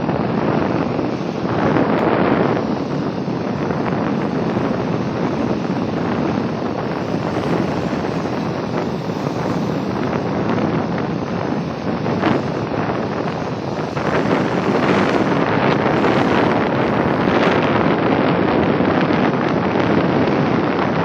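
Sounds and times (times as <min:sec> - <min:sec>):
sea surf washing on beach: 0:00.0 - 0:21.0
wind blowing across microphone: 0:00.0 - 0:21.0.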